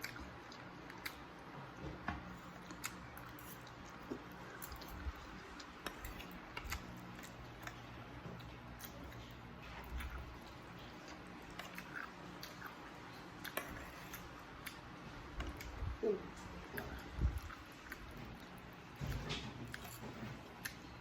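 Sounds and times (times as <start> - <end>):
quiet chewing: 0.0 - 21.0.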